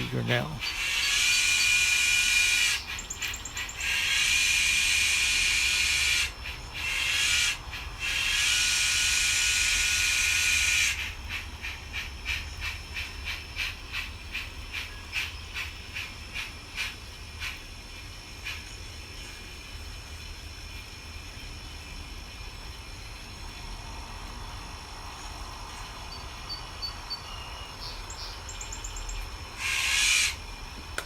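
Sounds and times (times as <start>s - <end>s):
model steam locomotive chuffing: 0.0s - 31.0s.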